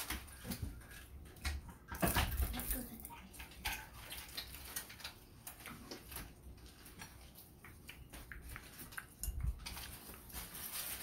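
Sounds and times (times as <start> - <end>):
crunching and chewing crispy food: 0.0 - 11.0.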